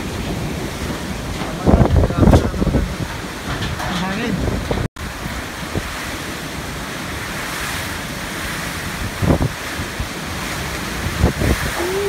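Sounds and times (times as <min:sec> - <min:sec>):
heavy rain: 0:00.0 - 0:12.0
strong wind through trees: 0:00.0 - 0:12.0
wind buffeting microphone: 0:00.0 - 0:12.0.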